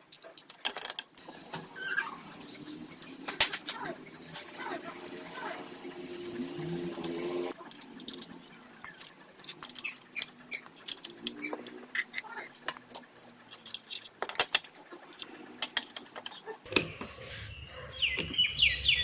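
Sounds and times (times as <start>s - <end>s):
metal tools clicking and tapping: 0.0s - 5.2s, 5.8s - 16.8s.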